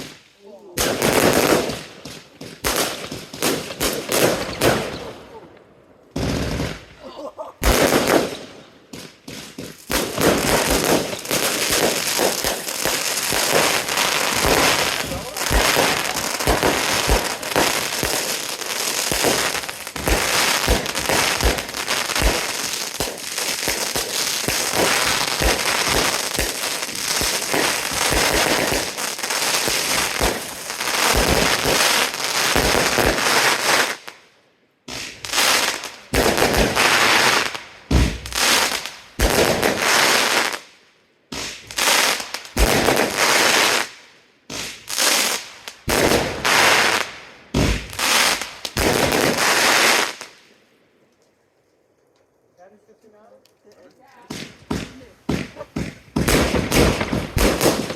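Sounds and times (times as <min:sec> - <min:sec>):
fireworks shots and crackling: 0:00.0 - 0:05.5, 0:06.1 - 0:50.6, 0:54.0 - 0:57.9.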